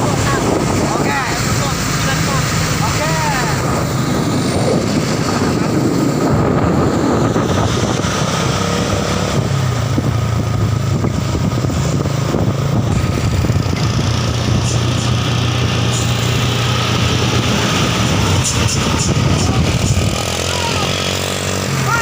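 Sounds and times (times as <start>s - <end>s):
diesel truck engine humming: 0.0s - 22.0s.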